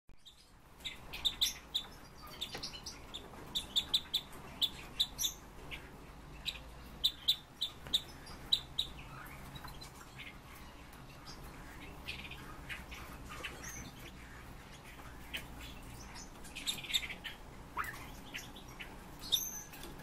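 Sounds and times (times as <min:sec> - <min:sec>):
bird high chirps: 0:00.2 - 0:20.0.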